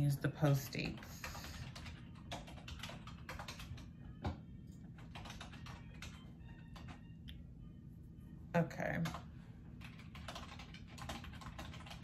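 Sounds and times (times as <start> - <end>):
computer keyboard typing: 0.0 - 7.1, 8.8 - 12.0.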